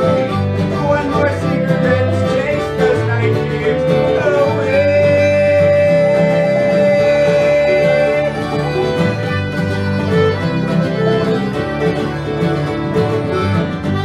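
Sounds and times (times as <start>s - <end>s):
acoustic string band playing: 0.0s - 14.0s.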